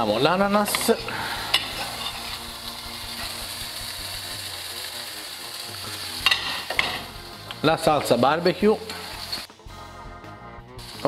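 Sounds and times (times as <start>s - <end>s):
meat sizzling in a frying pan: 0.0s - 9.5s, 10.8s - 11.0s.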